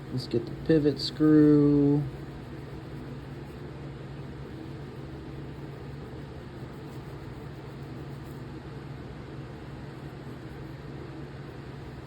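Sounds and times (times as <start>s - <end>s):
low mechanical hum with hiss: 0.0s - 12.0s.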